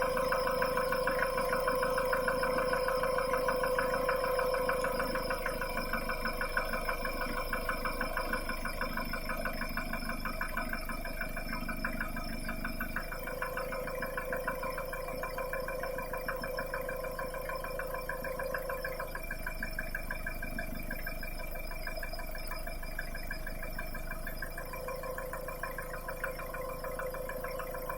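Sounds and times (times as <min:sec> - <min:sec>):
diesel engine idling with knock: 0:00.0 - 0:27.9.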